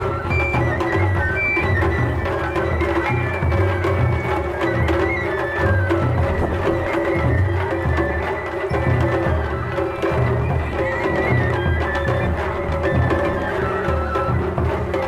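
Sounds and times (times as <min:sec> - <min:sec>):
bamboo flute melody: 0:00.0 - 0:15.0
sharp percussion strokes: 0:00.0 - 0:15.0
taiko drums beating: 0:00.0 - 0:15.0.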